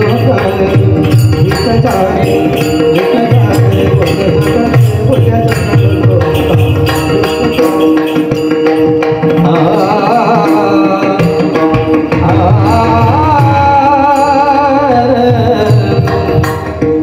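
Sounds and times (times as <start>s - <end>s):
person singing ornamented notes: 0.0s - 16.4s
drum strokes: 0.0s - 17.0s
steady held tones: 0.0s - 17.0s.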